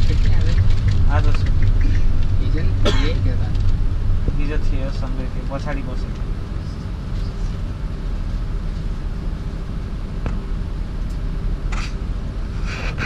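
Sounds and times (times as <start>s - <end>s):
vehicle engine rumble inside cabin: 0.0s - 13.0s.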